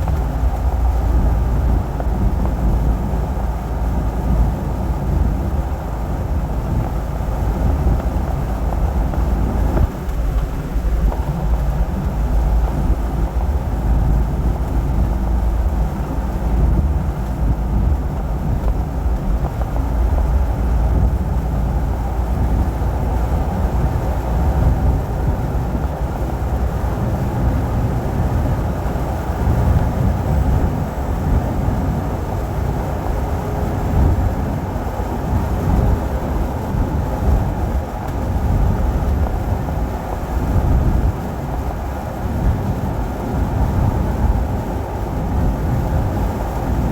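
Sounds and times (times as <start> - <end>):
truck engine and road rumble: 0.0 - 46.9.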